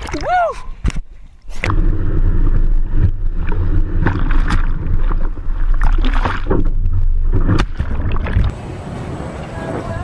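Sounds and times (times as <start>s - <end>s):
water splashes: 0.0s - 10.0s.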